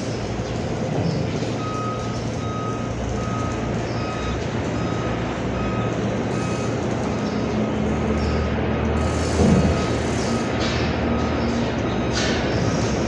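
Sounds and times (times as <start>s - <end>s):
diesel engine droning: 0.0s - 13.0s
reversing alarm beeping: 1.4s - 13.0s.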